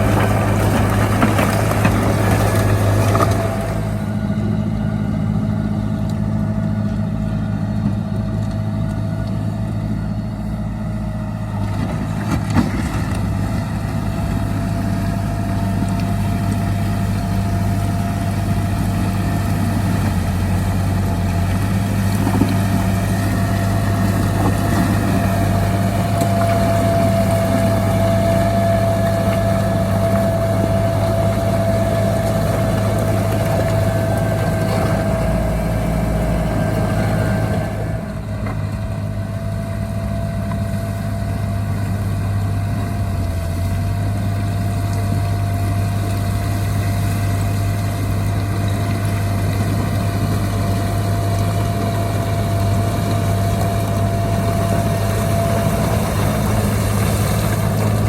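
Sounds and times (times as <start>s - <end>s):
low diesel engine drone: 0.0s - 58.0s.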